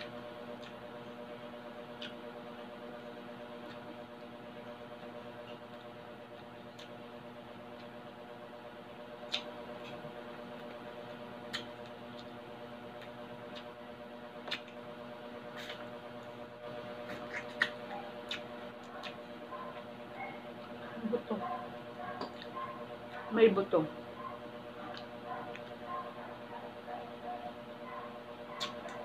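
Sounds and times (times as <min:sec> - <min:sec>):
crunchy chewing: 0:00.0 - 0:02.4, 0:03.1 - 0:08.1, 0:09.1 - 0:23.3, 0:24.2 - 0:29.0
steady low hum: 0:00.0 - 0:29.0.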